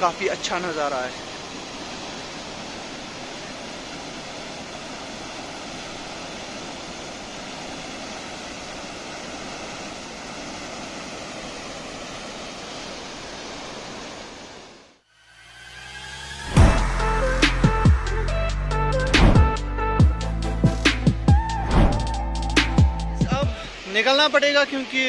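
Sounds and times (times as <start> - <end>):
waterfall rushing: 0.0 - 18.3, 21.4 - 25.0.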